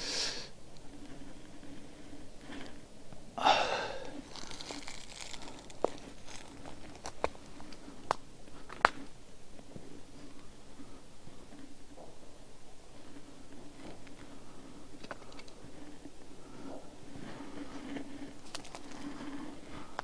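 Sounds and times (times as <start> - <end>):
dry brush rustling and crackling: 3.5 - 20.0.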